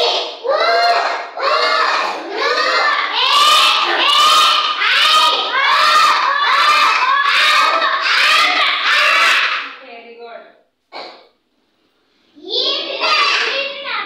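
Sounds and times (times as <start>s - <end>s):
children chanting words in unison: 0.0s - 9.8s, 12.4s - 14.0s.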